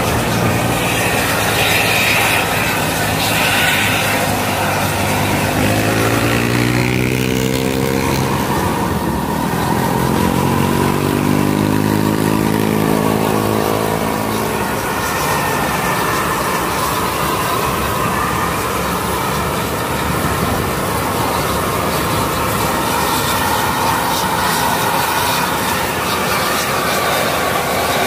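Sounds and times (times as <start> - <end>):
vehicle accelerating: 0.0 - 28.0.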